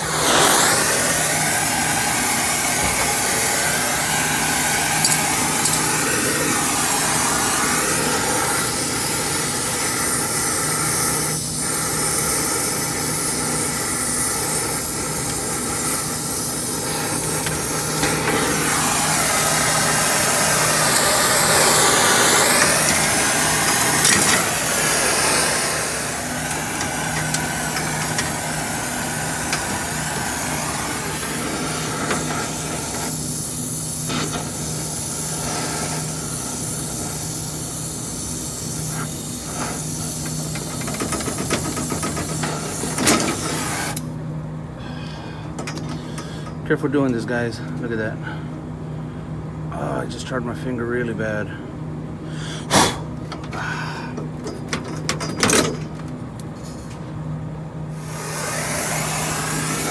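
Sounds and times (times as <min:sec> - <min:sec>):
torch flame hissing: 0:00.0 - 0:44.1, 0:52.4 - 0:54.4, 0:57.8 - 0:59.9.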